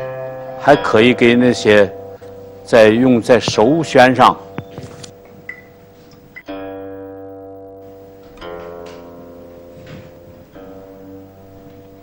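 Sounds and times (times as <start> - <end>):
plucked string instrument notes: 0.0 - 12.0.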